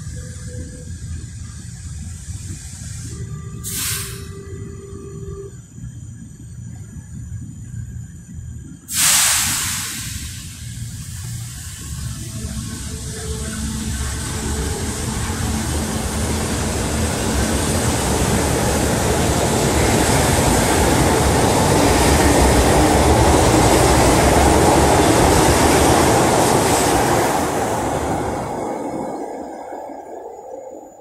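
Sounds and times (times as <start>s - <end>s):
train wheels on rails: 0.0s - 31.0s.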